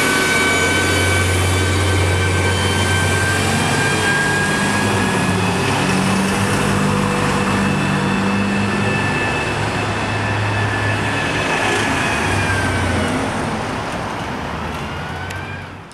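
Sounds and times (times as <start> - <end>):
bus engine drone: 0.0 - 15.9
car traffic: 0.0 - 15.9
cars passing close: 0.0 - 15.9
high steady whine: 0.0 - 15.9.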